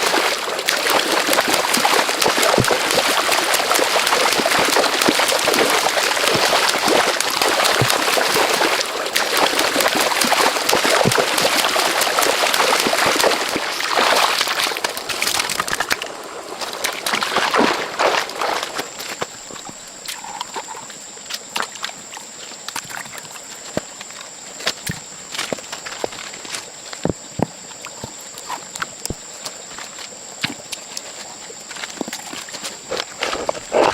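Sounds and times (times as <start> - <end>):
water sloshing and splashing: 0.0 - 33.9.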